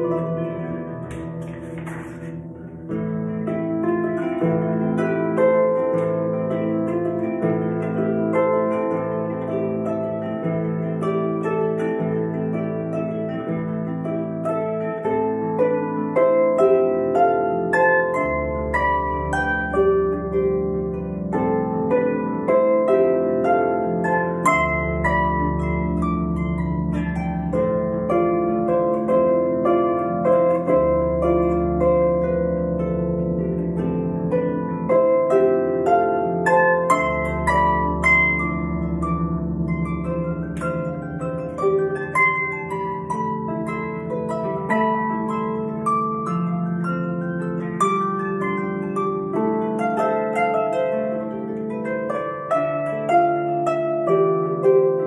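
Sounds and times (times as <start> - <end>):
harp played solo: 0.0 - 55.0.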